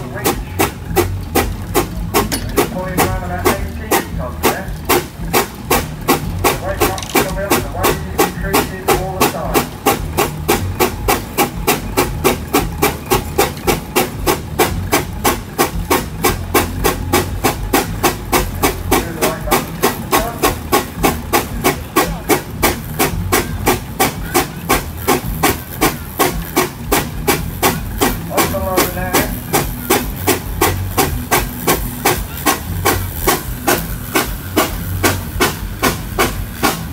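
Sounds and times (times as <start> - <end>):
low mechanical rumble: 0.0 - 36.9
steam engine exhaust beating: 0.0 - 36.9.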